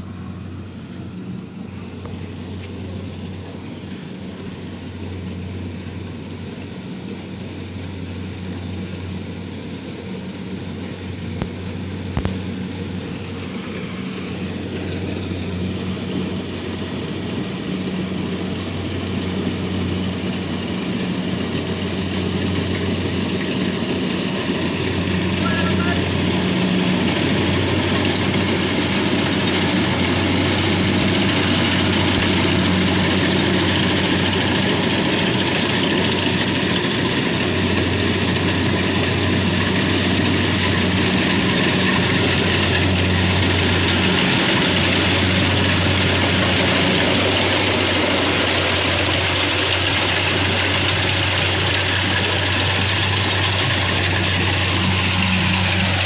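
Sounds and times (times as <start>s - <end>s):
harvester engine running: 0.0s - 56.0s.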